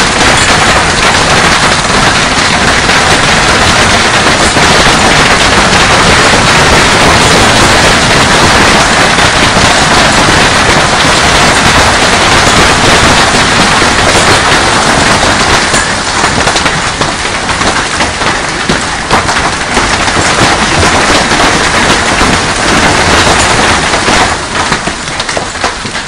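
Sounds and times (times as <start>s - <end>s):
heavy hail clattering: 0.0s - 26.0s.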